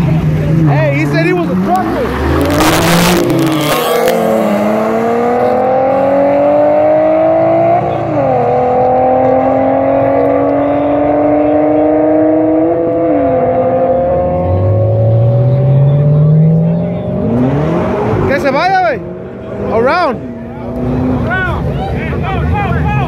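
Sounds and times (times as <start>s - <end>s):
car engines accelerating hard: 0.0s - 23.0s.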